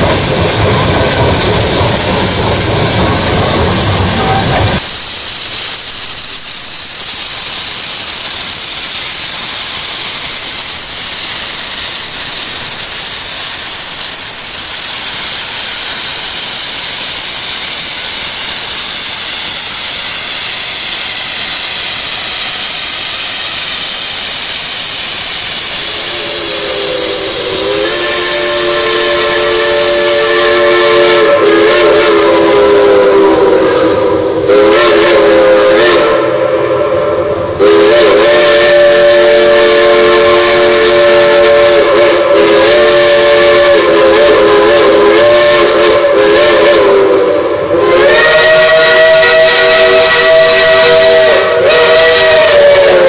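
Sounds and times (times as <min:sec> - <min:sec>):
chime steam whistle: 0:00.0 - 0:53.0
steam venting hiss: 0:00.0 - 0:53.0.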